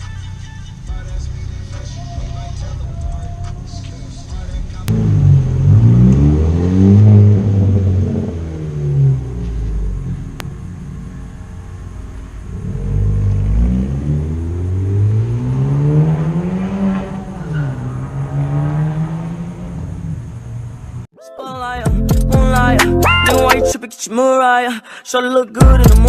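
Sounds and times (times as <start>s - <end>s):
car exhaust revving: 0.0s - 21.1s.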